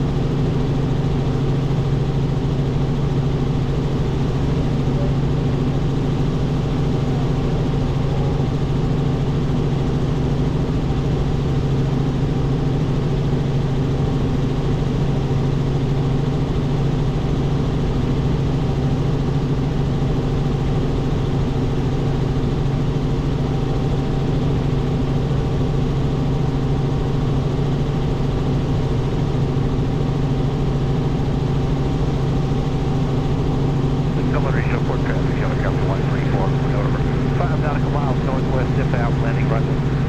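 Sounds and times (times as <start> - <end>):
helicopter cockpit drone: 0.0 - 40.0.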